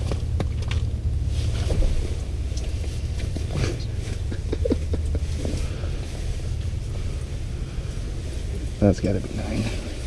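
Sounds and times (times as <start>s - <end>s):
light rustling: 0.0s - 10.0s
wind rumble: 0.0s - 10.0s.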